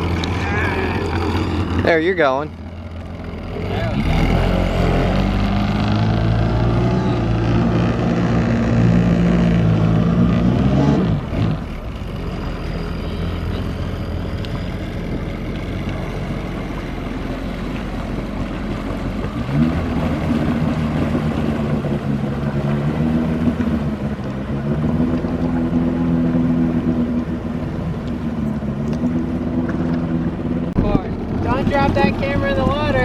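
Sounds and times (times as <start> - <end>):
jet ski engine running: 0.0 - 33.0.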